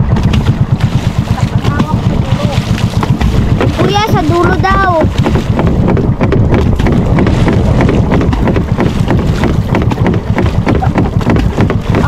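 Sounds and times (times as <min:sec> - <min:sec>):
pole splashing into water: 0:00.0 - 0:12.0
wind rumble on microphone: 0:00.0 - 0:12.0.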